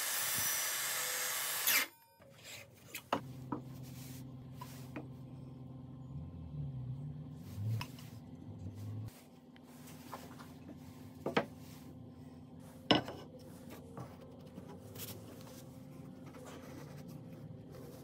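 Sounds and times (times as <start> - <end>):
steady low hum: 3.2 - 18.0.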